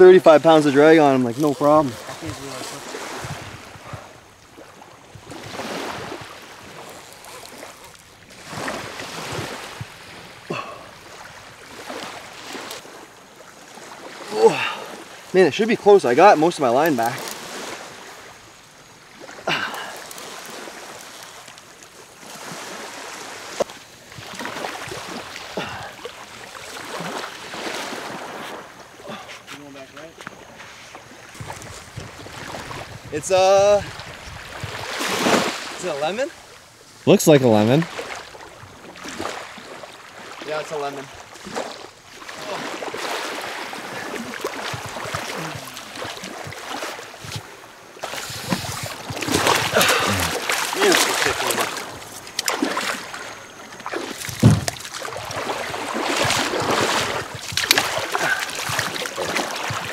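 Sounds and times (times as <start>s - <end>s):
surf washing onto beach: 0.0s - 59.9s.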